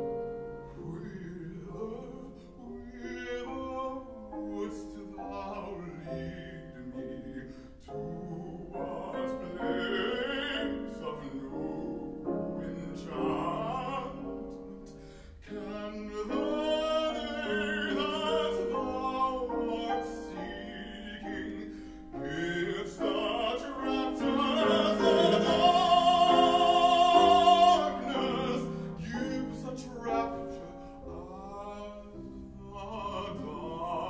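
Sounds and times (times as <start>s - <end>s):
grand piano: 0.0s - 34.0s
man singing opera: 0.0s - 34.0s.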